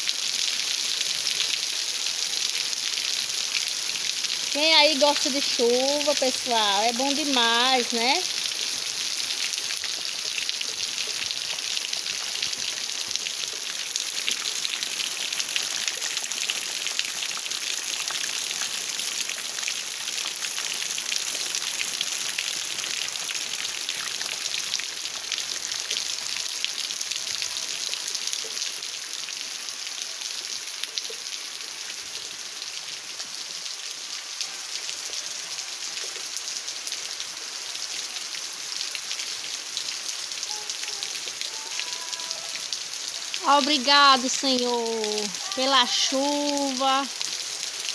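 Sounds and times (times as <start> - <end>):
rain falling on puddles: 0.0 - 47.9.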